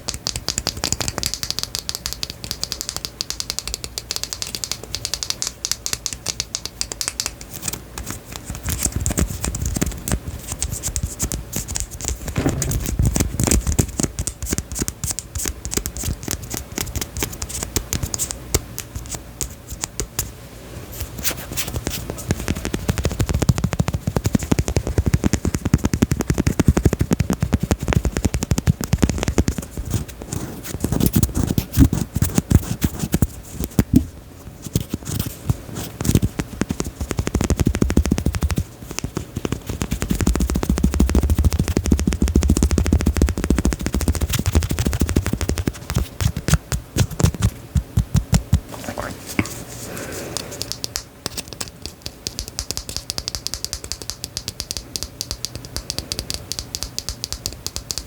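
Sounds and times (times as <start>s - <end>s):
tapping and scratching clicks: 0.0s - 20.3s, 21.6s - 49.6s, 50.3s - 58.0s.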